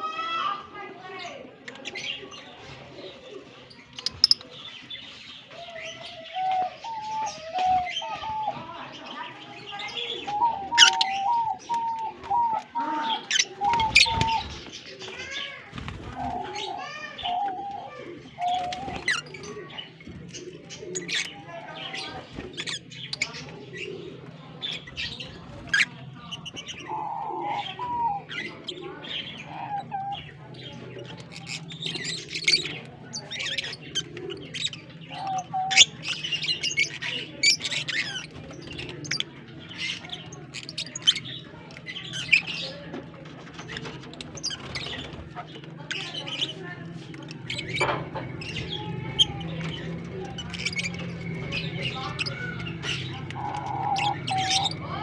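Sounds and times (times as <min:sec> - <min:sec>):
birds chirping and screeching: 0:00.0 - 0:55.0.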